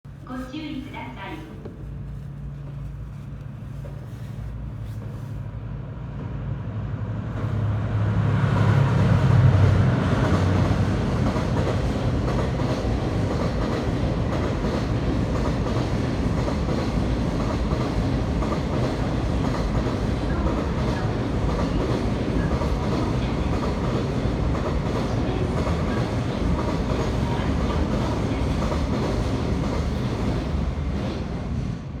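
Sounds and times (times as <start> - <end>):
diesel locomotive engine hum: 0.1 - 32.0.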